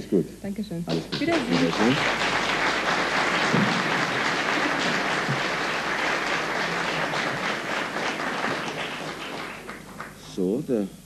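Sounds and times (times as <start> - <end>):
audience applauding: 0.9 - 10.4.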